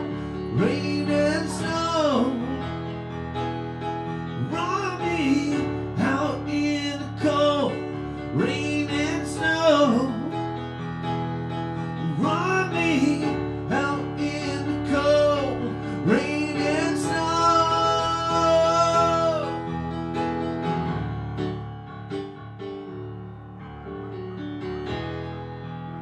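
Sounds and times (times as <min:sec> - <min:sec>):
keyboards: 0:00.0 - 0:26.0.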